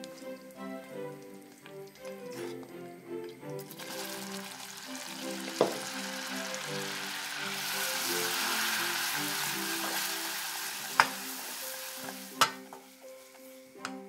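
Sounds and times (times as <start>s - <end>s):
roux sizzling in saucepan: 0.0s - 13.9s
quiet background music: 0.0s - 14.0s.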